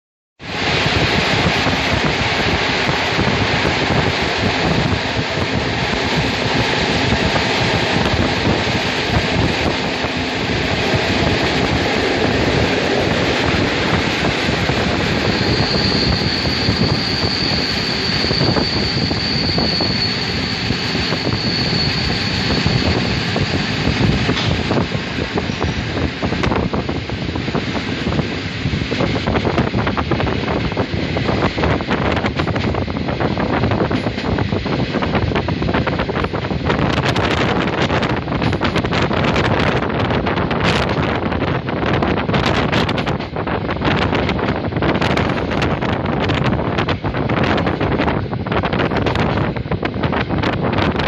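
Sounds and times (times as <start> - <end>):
train wheels and air rushing: 0.4 - 51.0
high train wheel squeal: 0.5 - 43.0.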